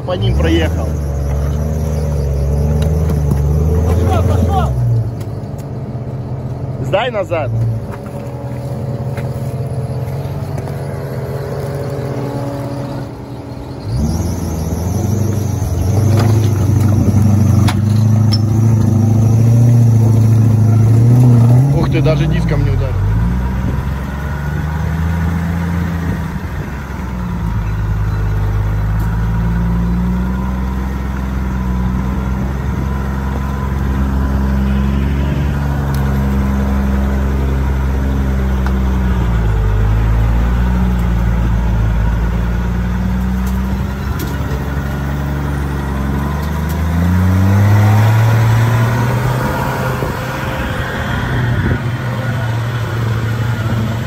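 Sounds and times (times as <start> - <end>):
off-road vehicle engine crawling: 0.0 - 54.0.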